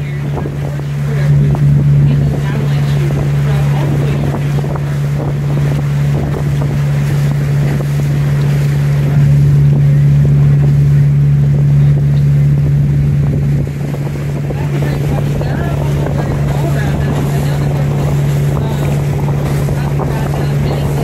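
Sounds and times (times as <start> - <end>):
boat engine droning: 0.0 - 21.0
rushing water: 0.0 - 21.0
wind buffeting microphone: 0.0 - 21.0.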